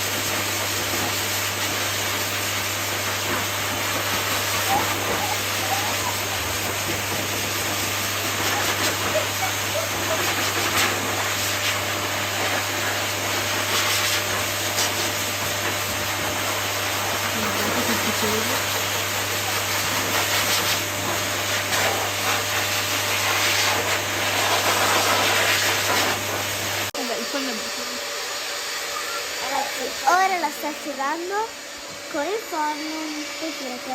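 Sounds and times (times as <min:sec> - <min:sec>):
blow dryer running: 0:00.0 - 0:33.9.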